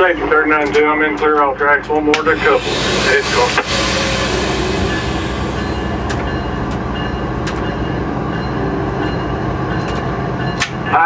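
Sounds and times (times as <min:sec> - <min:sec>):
diesel locomotive engine humming: 0:00.0 - 0:11.0.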